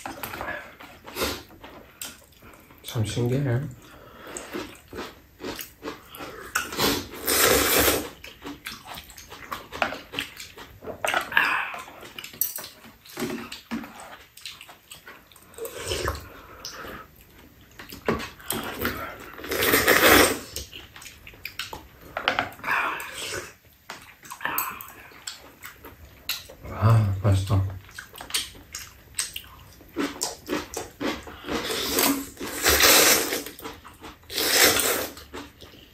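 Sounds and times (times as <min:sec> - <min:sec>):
noodles being slurped: 0:00.0 - 0:17.2, 0:17.8 - 0:21.6, 0:28.1 - 0:35.8.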